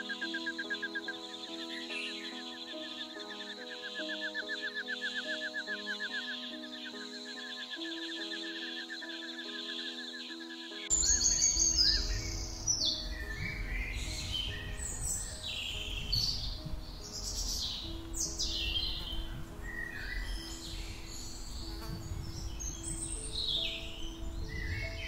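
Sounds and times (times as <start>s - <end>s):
birds chirping and calling: 0.0s - 25.0s
soft music with long notes: 0.0s - 25.0s.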